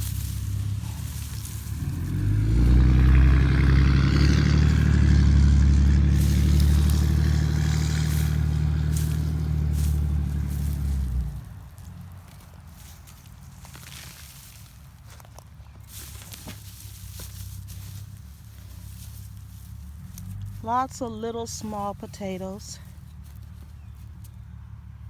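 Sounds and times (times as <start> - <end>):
faint crackling and rustling: 0.0 - 5.3, 6.1 - 24.7
vehicle engine running: 0.0 - 25.0.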